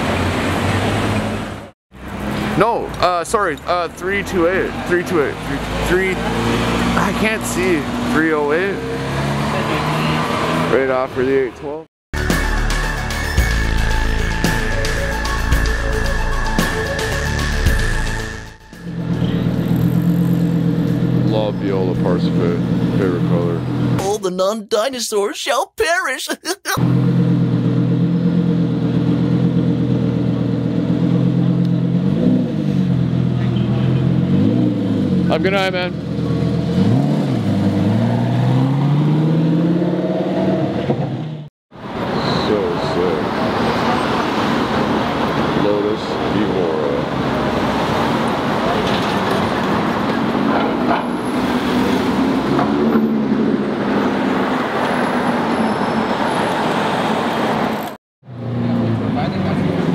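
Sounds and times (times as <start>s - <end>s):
car engines running: 0.0s - 11.8s, 18.8s - 24.0s, 26.8s - 40.0s, 41.8s - 59.9s
cars driving past: 0.0s - 11.8s, 18.8s - 24.0s, 26.8s - 59.9s.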